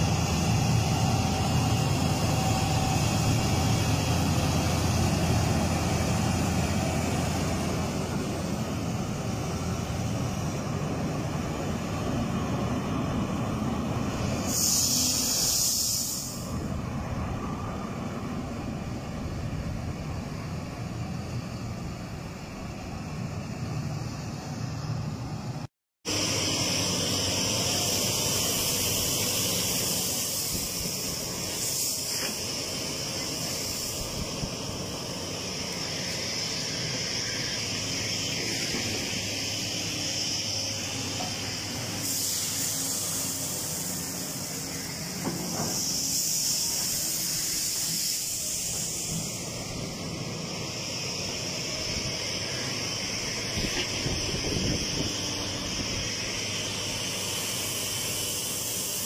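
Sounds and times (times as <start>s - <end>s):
steady hissing: 0.0s - 23.2s, 23.9s - 59.0s
excavator engine hum: 0.0s - 59.0s.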